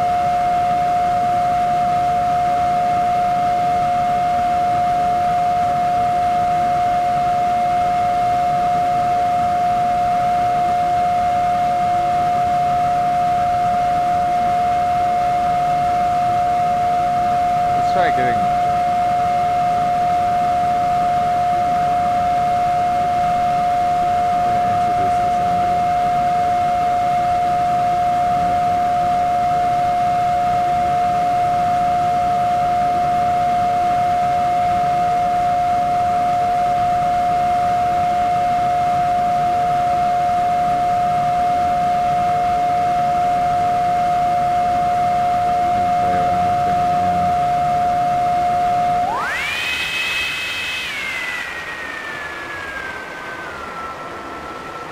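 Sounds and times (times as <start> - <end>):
digital feedback whine: 0.0 - 54.9.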